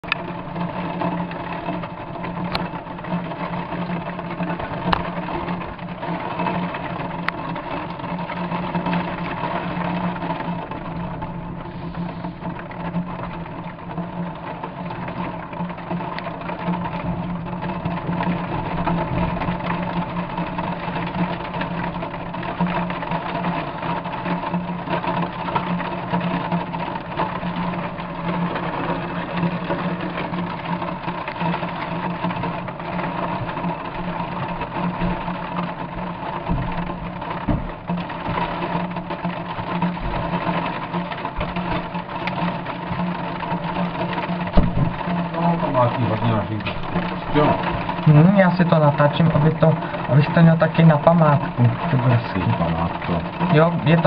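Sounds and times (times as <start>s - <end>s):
heavy rain drumming: 0.0s - 54.0s.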